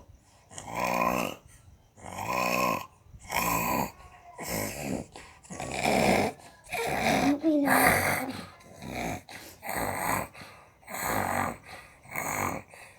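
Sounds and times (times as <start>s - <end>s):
child snoring heavily: 0.5s - 12.9s.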